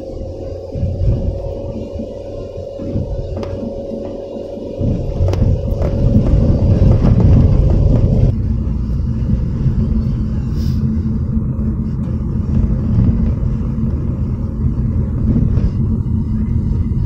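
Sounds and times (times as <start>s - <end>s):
higher steady hum: 0.0s - 17.0s
vehicle engine and road rumble: 0.0s - 17.0s.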